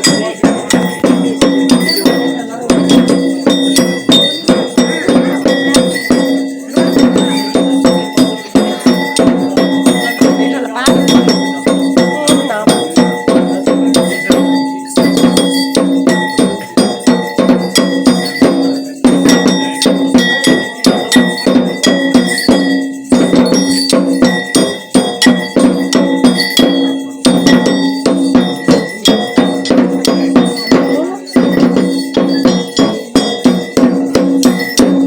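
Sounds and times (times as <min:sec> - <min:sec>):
ritual bells and percussion: 0:00.0 - 0:35.0.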